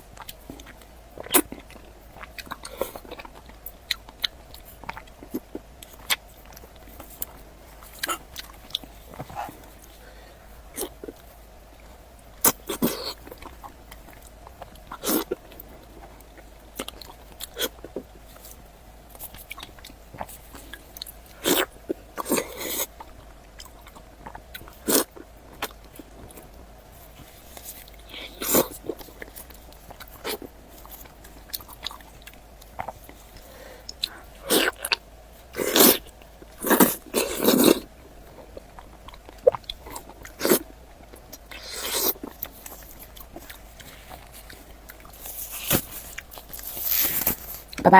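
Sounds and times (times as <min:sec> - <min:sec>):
wet biting and chewing: 0:00.1 - 0:10.0, 0:10.7 - 0:47.8.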